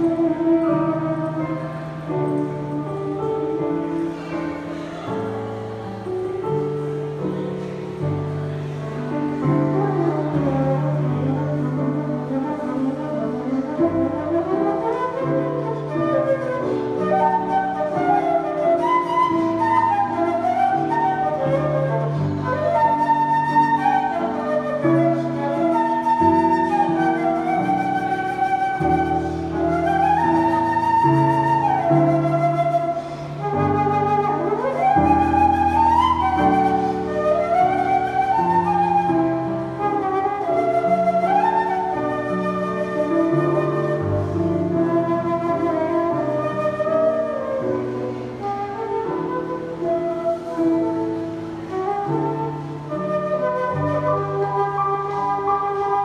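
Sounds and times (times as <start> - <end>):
electric keyboard piano chords: 0.0 - 56.0
flute melody: 0.0 - 56.0.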